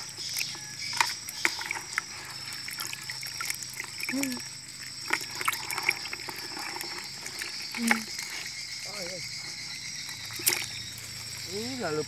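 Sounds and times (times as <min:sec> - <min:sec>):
water splashing in a plastic bucket: 0:00.0 - 0:12.0.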